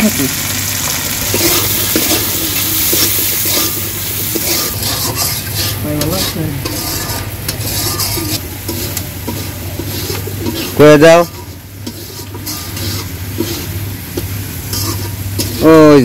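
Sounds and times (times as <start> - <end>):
food sizzling in oil: 0.0 - 16.0
metal spatula scraping pan: 1.3 - 15.8.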